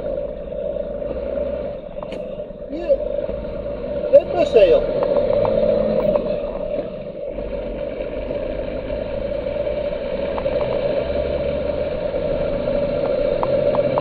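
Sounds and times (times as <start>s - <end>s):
lorry engine and road drone: 0.0s - 14.0s
low rumble: 0.0s - 14.0s.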